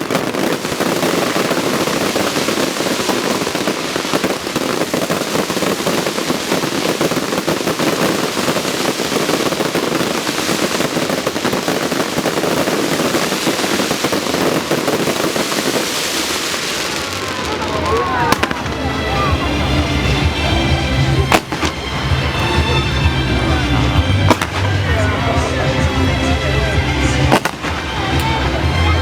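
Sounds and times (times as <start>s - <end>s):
fireworks crackling: 0.0s - 29.0s.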